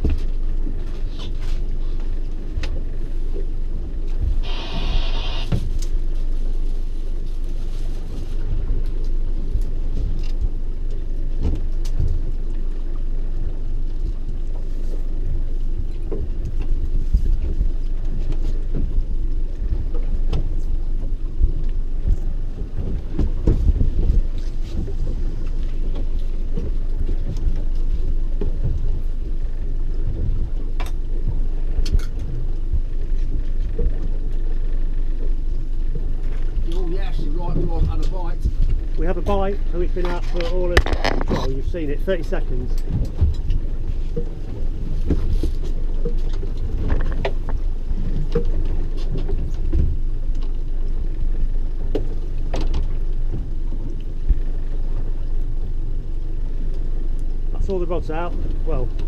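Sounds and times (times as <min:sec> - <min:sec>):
small boat rumbling: 0:00.0 - 0:59.0.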